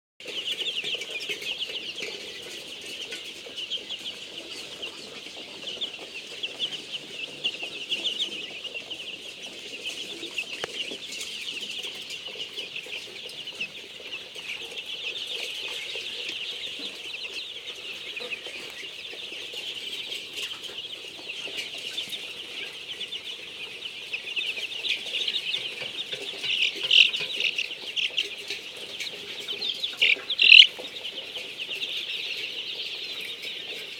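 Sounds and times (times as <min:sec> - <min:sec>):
chickens calling: 0:00.2 - 0:33.9.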